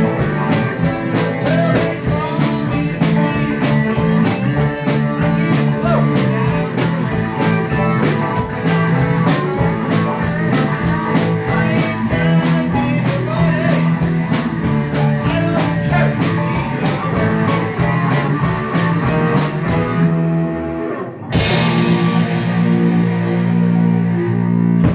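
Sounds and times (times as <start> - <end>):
drum beat: 0.0 - 20.0, 21.4 - 23.8
rock band playing: 0.0 - 24.9.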